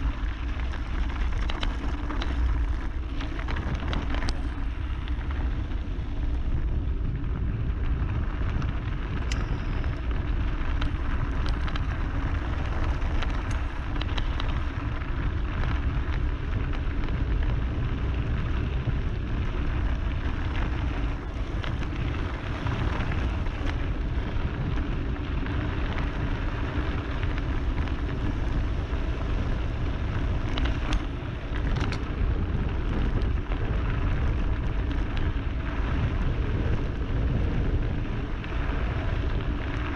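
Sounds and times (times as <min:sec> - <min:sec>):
sharp clicks and rattles: 0:00.0 - 0:06.0, 0:08.4 - 0:38.6
wind rushing over microphone: 0:00.0 - 0:39.9.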